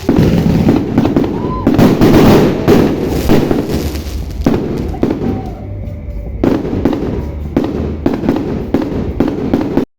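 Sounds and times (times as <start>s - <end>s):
fireworks bangs and crackle: 0.0s - 9.9s.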